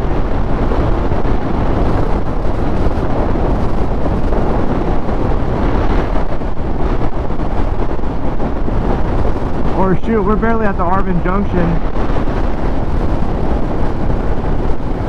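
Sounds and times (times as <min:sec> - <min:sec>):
motorcycle running noise: 0:00.0 - 0:15.0
wind roaring over microphone: 0:00.0 - 0:15.0.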